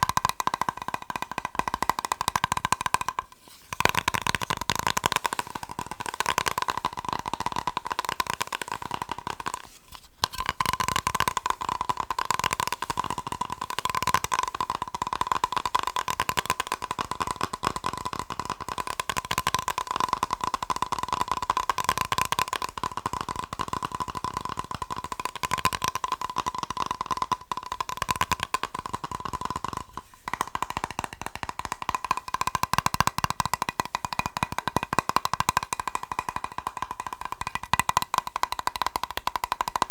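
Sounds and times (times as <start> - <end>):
fast tapping on plastic box: 0.0 - 39.9.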